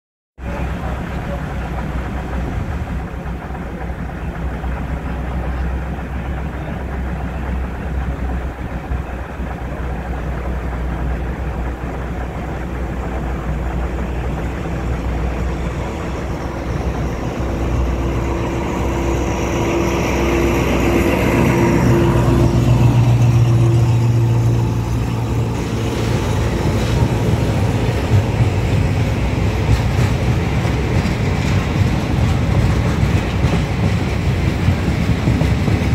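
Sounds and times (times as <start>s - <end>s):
diesel locomotive engine: 0.4s - 35.9s
rail cars rattling past: 0.4s - 35.9s.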